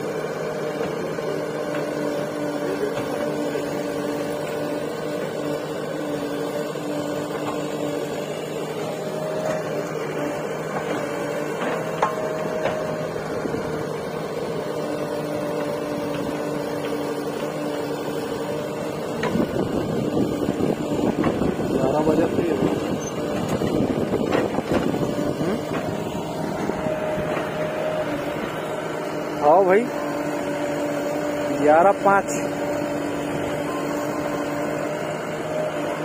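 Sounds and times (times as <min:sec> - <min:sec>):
diesel engines running: 0:00.0 - 0:36.0.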